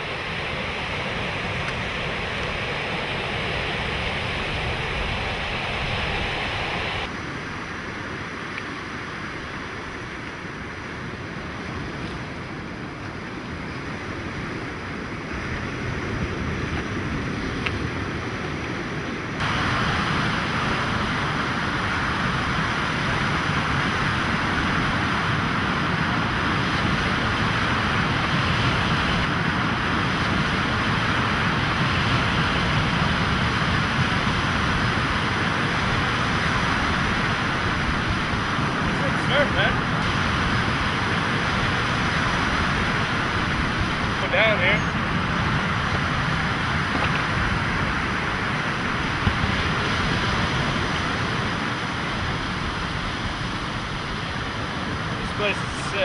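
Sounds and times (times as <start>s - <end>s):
ocean surf: 0.0s - 56.0s
wind: 0.0s - 56.0s.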